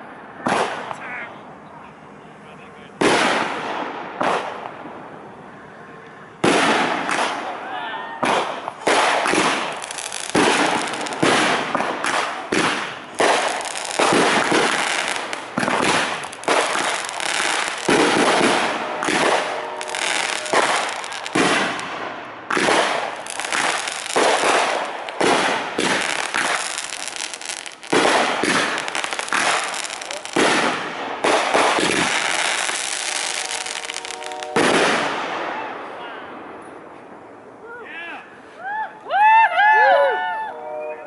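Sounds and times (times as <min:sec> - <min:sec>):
fireworks bursting: 0:00.0 - 0:01.2, 0:02.8 - 0:07.6, 0:08.2 - 0:37.4
fireworks crackling: 0:01.9 - 0:37.4.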